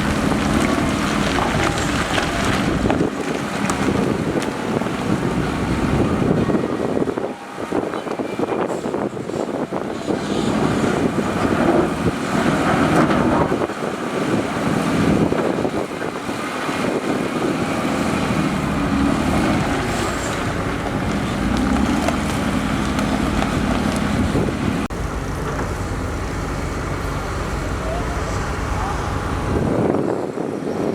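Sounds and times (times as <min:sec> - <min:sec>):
heavy machinery diesel engines rumbling: 0:00.0 - 0:30.9.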